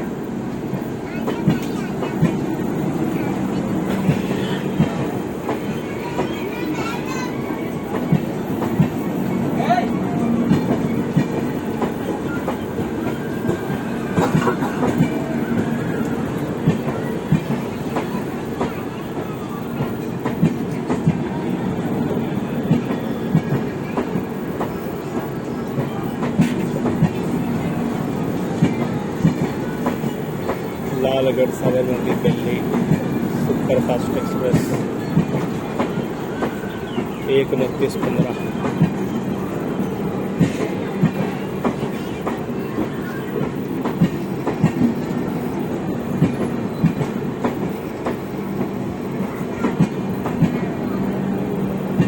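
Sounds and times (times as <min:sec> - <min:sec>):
train rumbling along track: 0:00.0 - 0:52.0.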